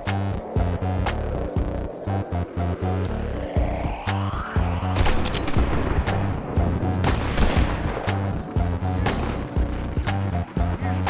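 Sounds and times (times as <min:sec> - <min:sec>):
music with pulsing bass: 0:00.0 - 0:11.0.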